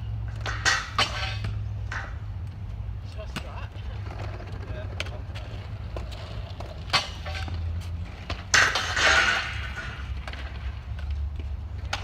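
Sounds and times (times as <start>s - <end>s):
scooter clattering on rail: 0.2s - 12.0s.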